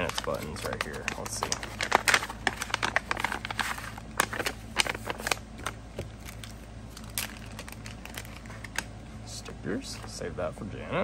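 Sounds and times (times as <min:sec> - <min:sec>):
paper and plastic bags crinkling: 0:00.0 - 0:08.9
steady low hum: 0:00.0 - 0:11.0.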